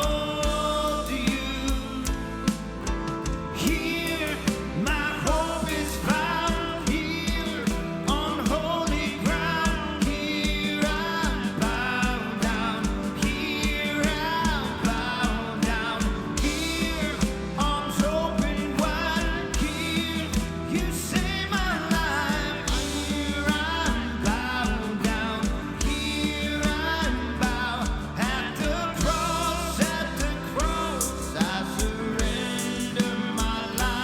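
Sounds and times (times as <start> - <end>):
bass: 0.0 - 34.0
drums keeping a steady beat: 0.0 - 34.0
guitar: 0.0 - 34.0
person singing a melody: 3.6 - 34.0.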